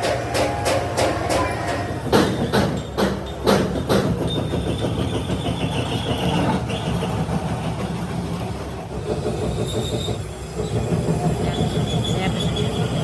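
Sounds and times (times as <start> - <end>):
workshop machine droning: 0.0 - 13.0.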